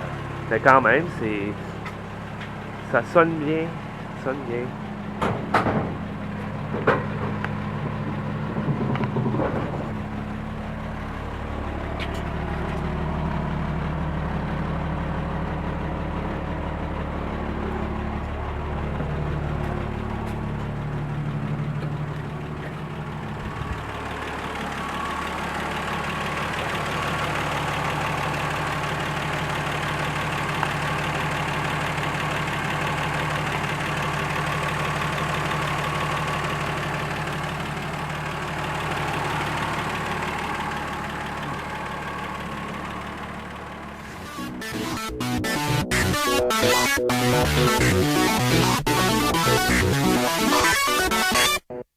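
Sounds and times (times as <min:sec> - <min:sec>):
low hum: 0:00.0 - 0:51.2
sharp engine knocks: 0:00.0 - 0:51.4
car engine idling: 0:00.0 - 0:51.9.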